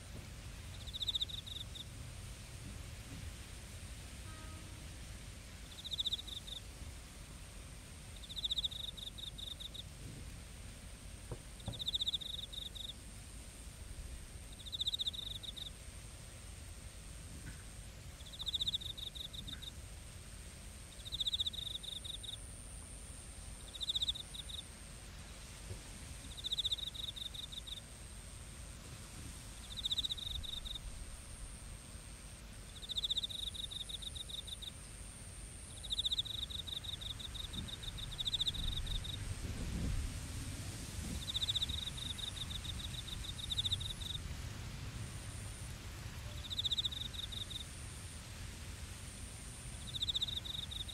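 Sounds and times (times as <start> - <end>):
crickets chirping: 0.0 - 50.9
low background rumble: 0.0 - 50.9.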